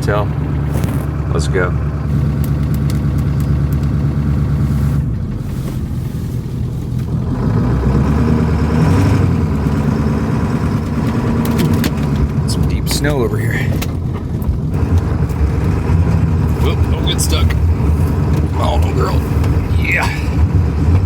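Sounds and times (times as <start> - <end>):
diesel truck engine driving off: 0.0 - 21.0.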